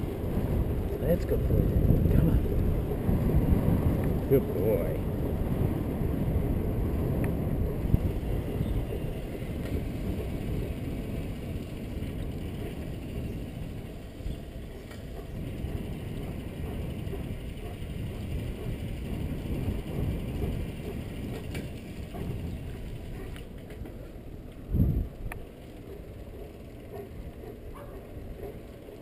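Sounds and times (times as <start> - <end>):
wind noise on microphone: 0.0 - 25.5
bicycle rolling on asphalt: 0.0 - 29.0.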